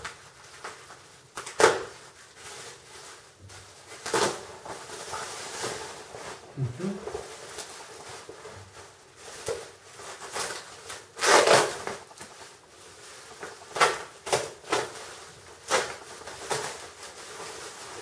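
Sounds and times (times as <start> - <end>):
bubble wrap crinkling: 0.0 - 18.0.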